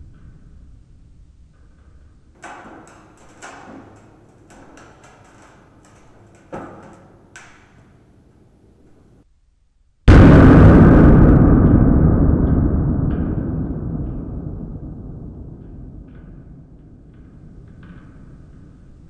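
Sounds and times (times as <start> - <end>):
sharp echoing knocks: 1.6 - 9.2, 10.1 - 19.0.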